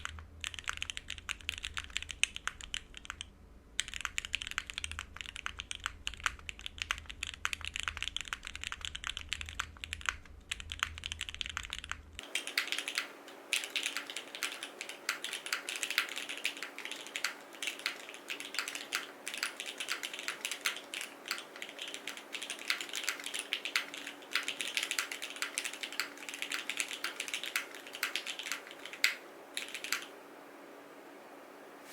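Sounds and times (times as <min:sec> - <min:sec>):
mechanical keyboard typing: 0:00.0 - 0:30.1.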